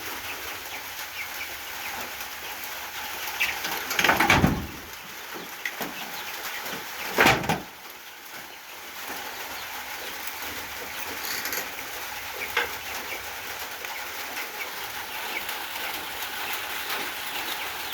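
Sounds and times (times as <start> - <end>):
chickens clucking: 0.0 - 17.9
steady outdoor hiss: 0.0 - 17.9.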